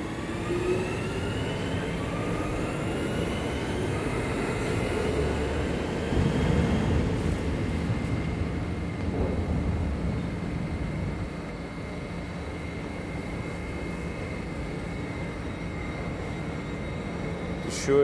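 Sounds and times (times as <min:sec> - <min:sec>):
low train rumble: 0:00.0 - 0:18.0.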